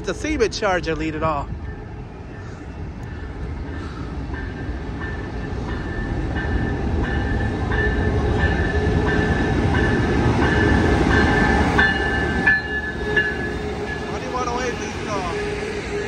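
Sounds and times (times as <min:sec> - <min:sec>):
diesel locomotive rumbling past: 0:00.0 - 0:16.0
locomotive bell ringing: 0:00.9 - 0:16.0.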